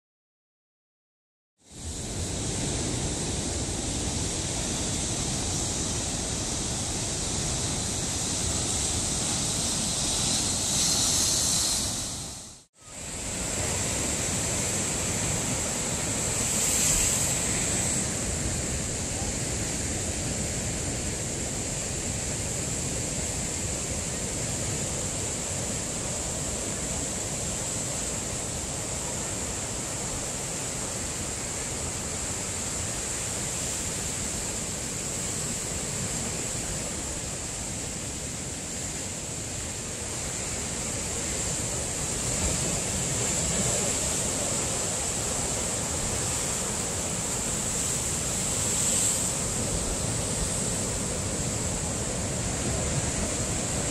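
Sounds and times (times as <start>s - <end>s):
ocean surf breaking on rocks: 1.8s - 53.9s.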